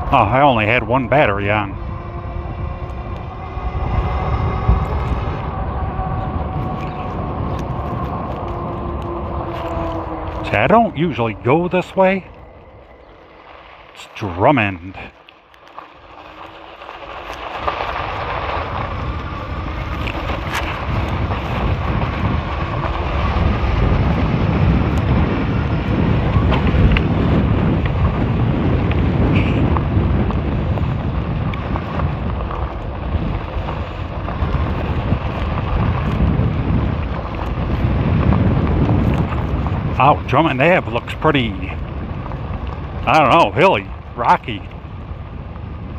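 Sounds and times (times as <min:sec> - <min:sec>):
low rumble: 0:00.0 - 0:45.9
wind rushing over microphone: 0:00.0 - 0:45.9.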